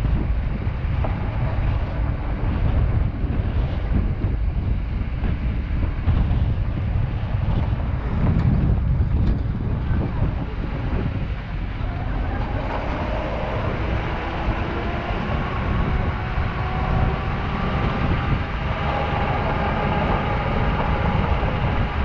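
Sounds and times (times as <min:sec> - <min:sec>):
faint whine: 0:00.0 - 0:22.0
vehicle driving on gravel: 0:00.0 - 0:22.0.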